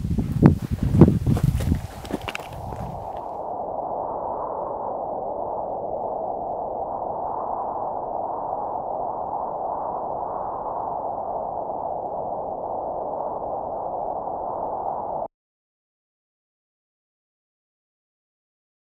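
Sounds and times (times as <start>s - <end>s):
dull rushing noise: 0.0s - 15.3s.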